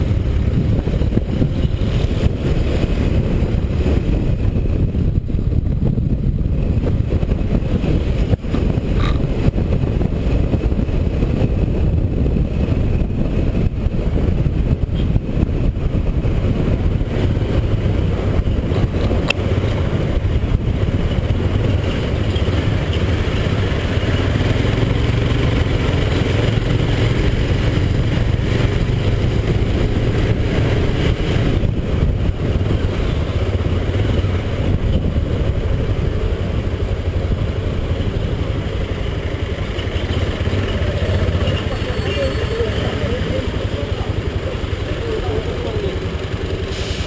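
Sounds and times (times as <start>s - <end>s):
motorcycle engine running: 0.0s - 46.7s
road and wind noise: 0.0s - 47.0s.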